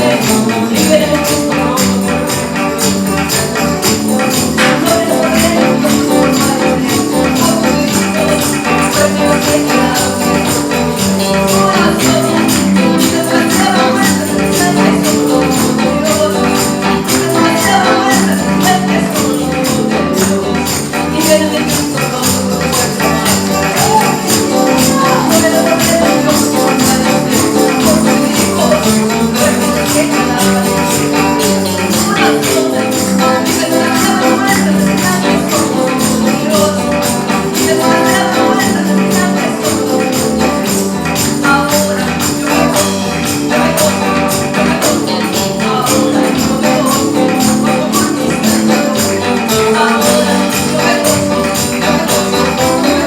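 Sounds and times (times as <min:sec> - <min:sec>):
tambourine jingling: 0:00.0 - 0:53.0
upbeat praise music: 0:00.0 - 0:53.0.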